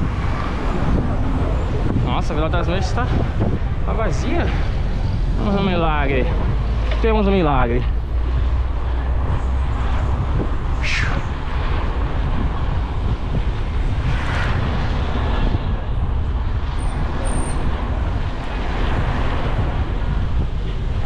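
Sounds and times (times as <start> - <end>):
road traffic noise: 0.0 - 21.0
wind buffeting microphone: 0.0 - 21.0.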